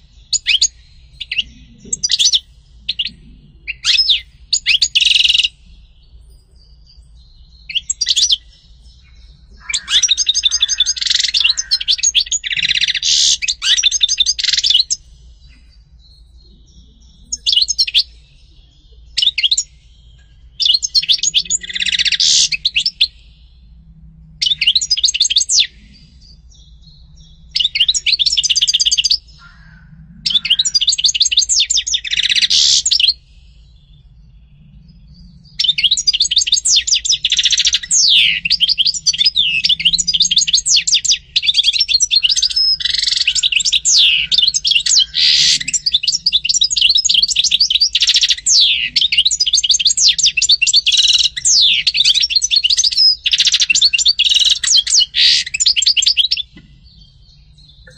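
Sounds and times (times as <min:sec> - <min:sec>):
finch twittering song: 0:00.0 - 0:57.9.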